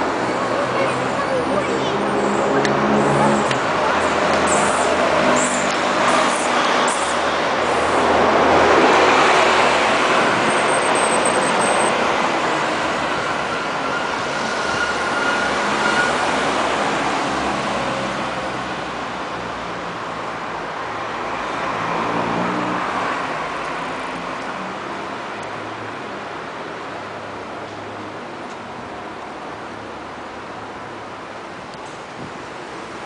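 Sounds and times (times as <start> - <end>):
cars driving past: 0.0 - 33.0.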